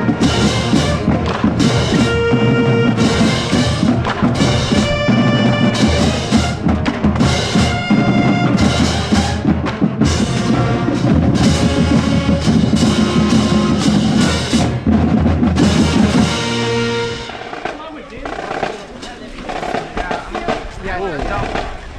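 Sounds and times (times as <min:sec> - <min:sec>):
bass and snare drums beating: 0:00.0 - 0:21.9
wind instruments holding notes: 0:00.0 - 0:21.9.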